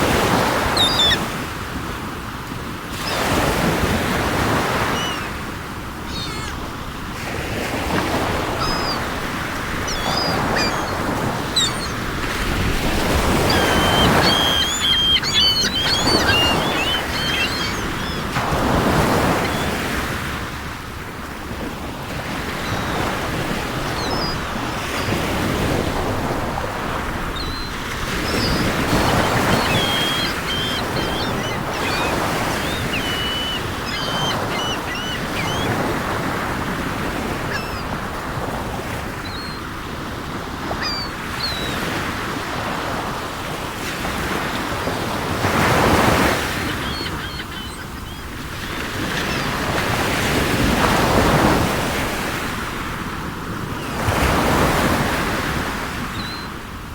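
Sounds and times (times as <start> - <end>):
seagulls crying: 0.0 - 1.8, 2.9 - 20.6, 22.1 - 52.3, 53.8 - 56.6
sea waves washing: 0.0 - 56.9.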